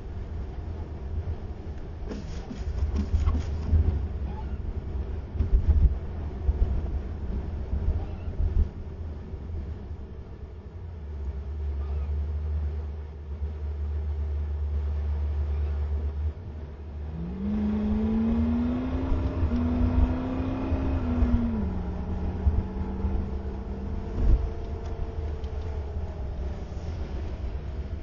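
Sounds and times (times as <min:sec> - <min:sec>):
car engine rumble: 0:00.0 - 0:28.0
drivetrain whine: 0:00.0 - 0:28.0.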